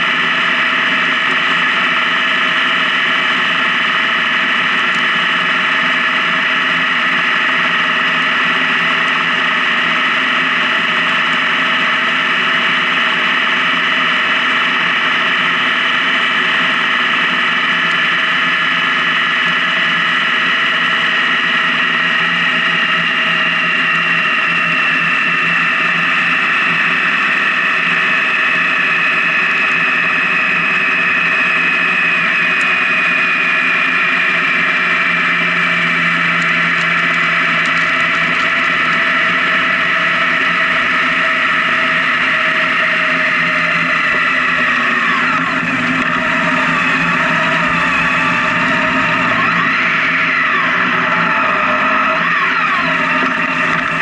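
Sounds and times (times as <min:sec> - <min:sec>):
motorcycle engine drone: 0:00.0 - 0:54.0.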